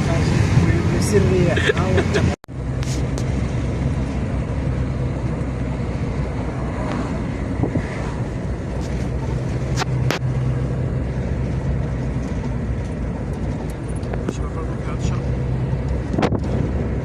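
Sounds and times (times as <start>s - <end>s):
car engine hum: 0.0s - 17.0s
road and tyre noise: 0.0s - 17.0s.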